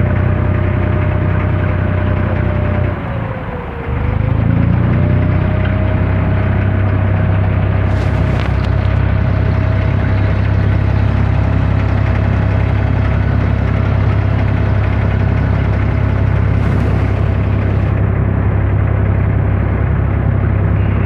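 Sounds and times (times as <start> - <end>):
boat diesel engine droning: 0.0 - 21.0.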